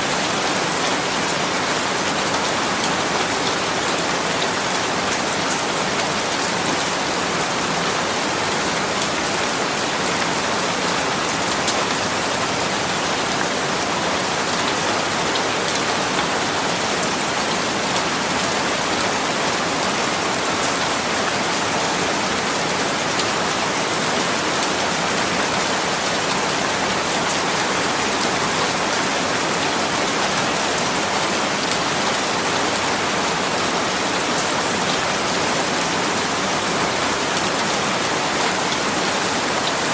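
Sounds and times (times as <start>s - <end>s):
rain pattering on a surface: 0.1s - 39.9s.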